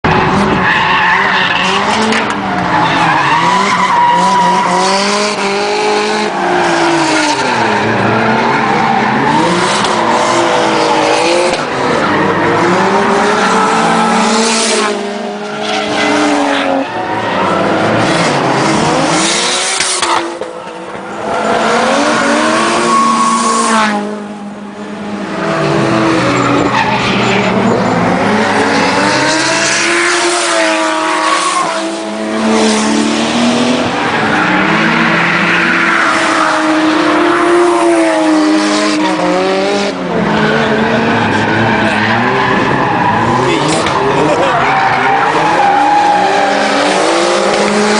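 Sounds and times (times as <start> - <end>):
car engine revving: 0.1 - 47.9.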